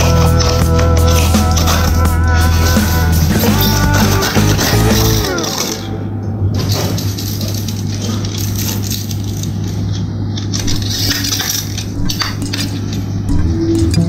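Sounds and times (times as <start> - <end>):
low hum: 0.0 - 8.0, 10.6 - 14.0.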